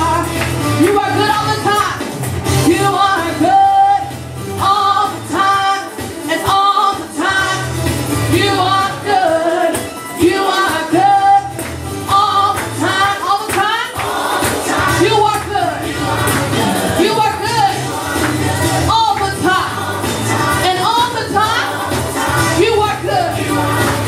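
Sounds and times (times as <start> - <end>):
instrumental accompaniment: 0.0 - 24.0
woman singing into a microphone: 2.6 - 24.0.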